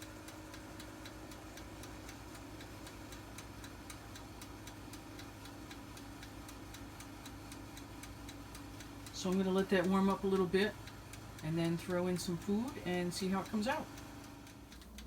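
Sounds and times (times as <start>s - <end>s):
convection fan humming: 0.0s - 15.0s
mechanical timer ticking: 0.0s - 15.0s.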